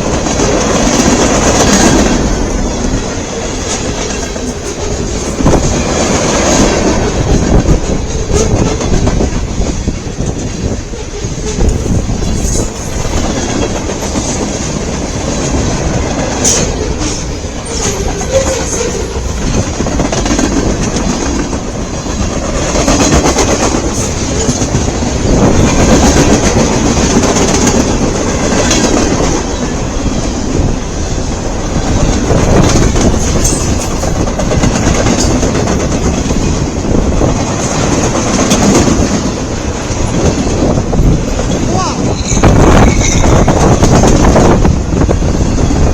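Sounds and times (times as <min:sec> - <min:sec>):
train wheels rumbling on rail: 0:00.0 - 0:45.9
wheels clicking over rail joints: 0:00.0 - 0:45.9.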